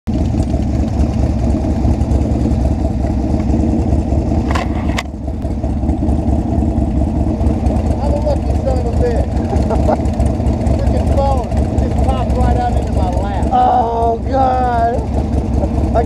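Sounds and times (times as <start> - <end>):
motorcycle engine idling: 0.1 - 16.0.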